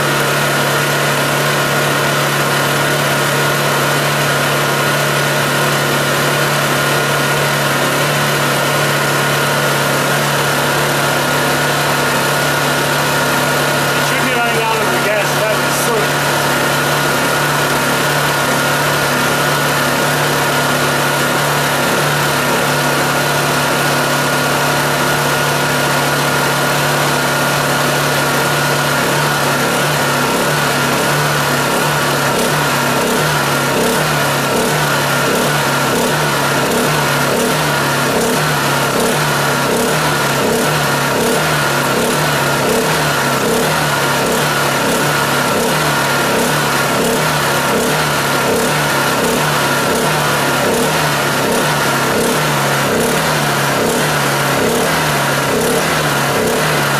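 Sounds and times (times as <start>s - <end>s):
generator engine running: 0.0s - 56.9s.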